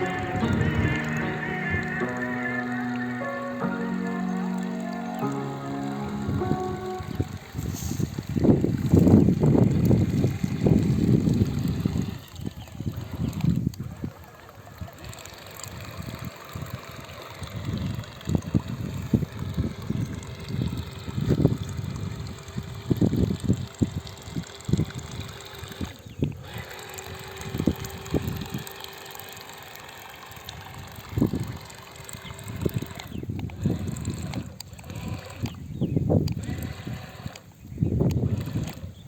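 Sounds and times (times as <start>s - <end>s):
faint motor whine: 0.0s - 39.0s
water splashing and trickling: 4.0s - 35.5s.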